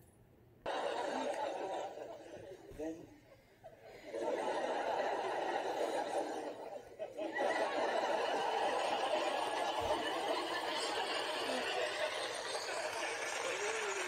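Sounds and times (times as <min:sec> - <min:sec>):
audience laughter on tv: 0:00.7 - 0:02.7, 0:03.9 - 0:14.0.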